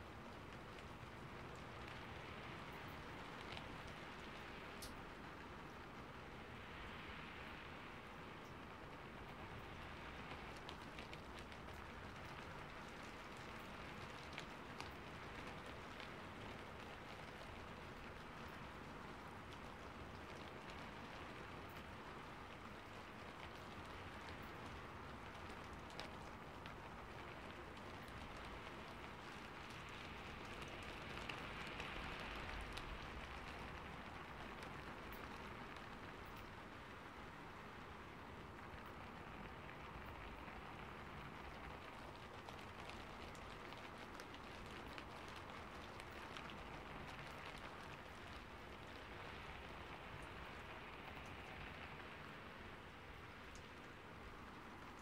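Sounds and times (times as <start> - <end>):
light rain: 0.0 - 55.0.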